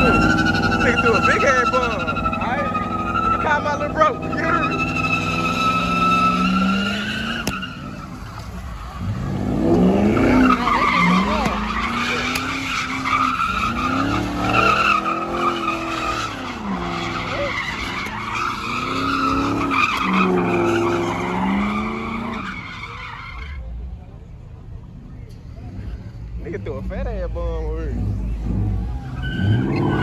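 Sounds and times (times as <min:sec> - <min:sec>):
car engine revving: 0:00.0 - 0:23.4, 0:25.3 - 0:30.0
car tyres screeching: 0:00.0 - 0:30.0.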